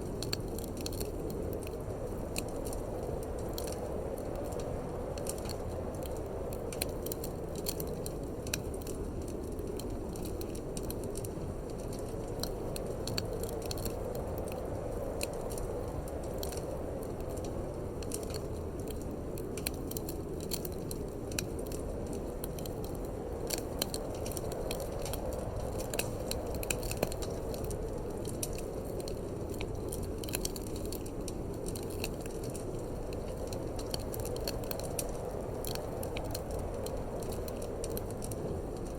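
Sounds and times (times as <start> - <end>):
low rush of wind: 0.0 - 38.9
wood fire crackling and popping: 0.0 - 38.9.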